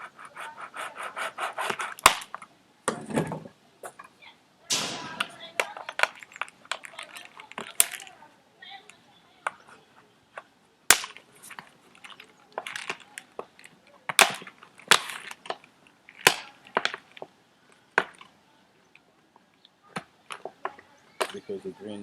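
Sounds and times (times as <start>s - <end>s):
crackling: 0.0s - 2.5s, 4.7s - 21.8s.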